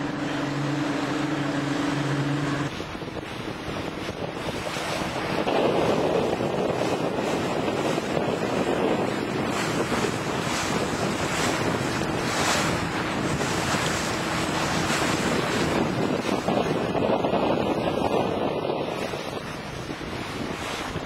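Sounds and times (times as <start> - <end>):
water rushing along boat hull: 0.0 - 21.0
wind buffeting microphone: 0.0 - 21.0.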